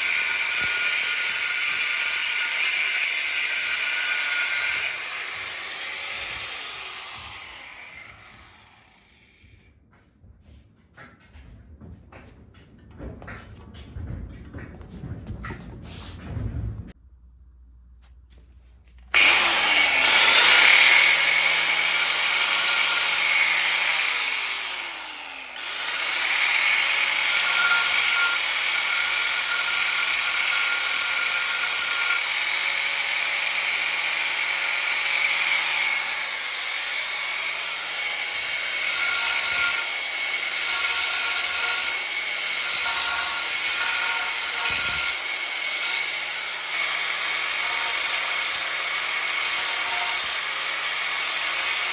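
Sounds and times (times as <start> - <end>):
angle grinder cutting metal: 0.0 - 9.5, 19.1 - 51.9.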